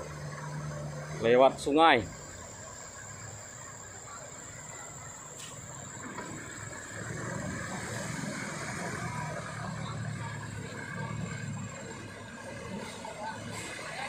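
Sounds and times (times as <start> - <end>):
truck engine working in mud: 0.0 - 14.0.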